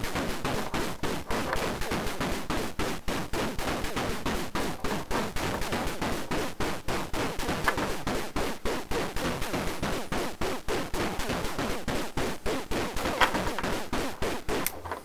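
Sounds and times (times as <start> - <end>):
noisy metallic electronic hits: 0.0 - 14.7.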